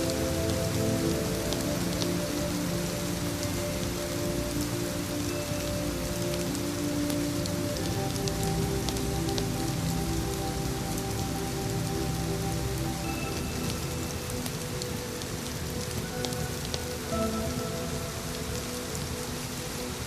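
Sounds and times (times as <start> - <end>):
soft ambient music: 0.0 - 20.0
steady rain falling: 0.0 - 20.0.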